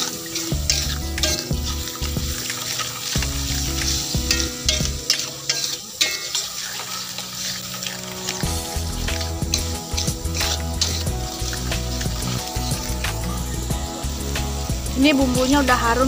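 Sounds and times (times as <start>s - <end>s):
background music: 0.0s - 16.0s
spatula scraping a wok: 0.0s - 16.0s
spice paste sizzling in oil: 0.0s - 16.0s.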